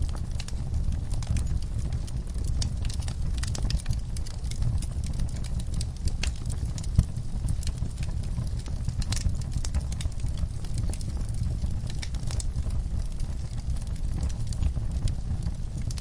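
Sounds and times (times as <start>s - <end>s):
fireplace fire crackling: 0.0s - 16.0s
low rumble: 0.0s - 16.0s.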